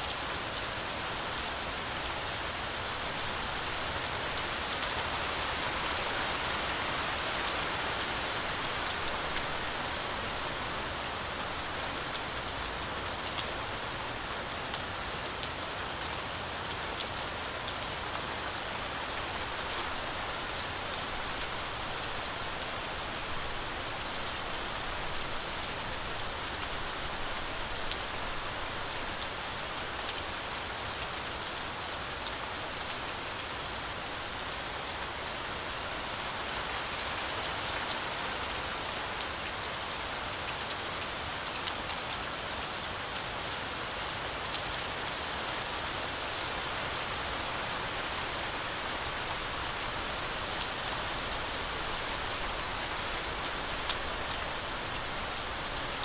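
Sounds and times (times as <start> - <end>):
heavy rain on forest canopy: 0.0 - 56.0.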